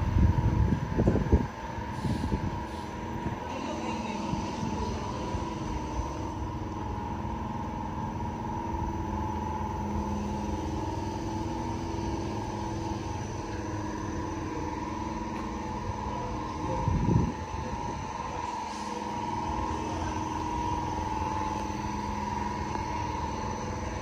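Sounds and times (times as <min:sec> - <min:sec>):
motor vehicle engines rumbling: 0:00.0 - 0:24.0.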